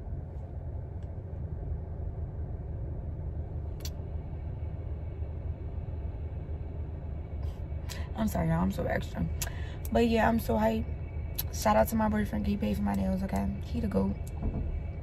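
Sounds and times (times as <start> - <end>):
low rumble inside car cabin: 0.0 - 15.0.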